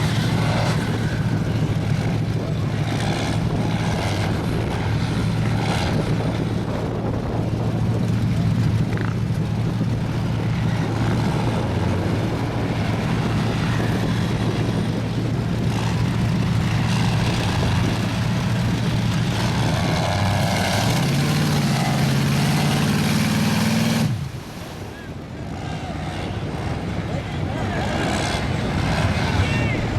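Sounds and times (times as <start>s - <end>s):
truck engine running hard: 0.0s - 29.9s.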